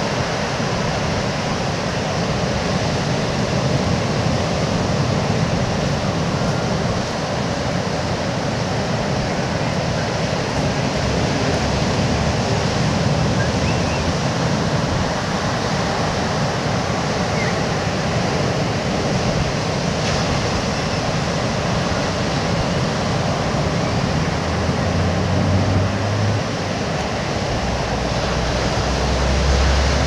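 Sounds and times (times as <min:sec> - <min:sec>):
surf washing onto beach: 0:00.0 - 0:30.0
wind rumble on microphone: 0:00.0 - 0:30.0.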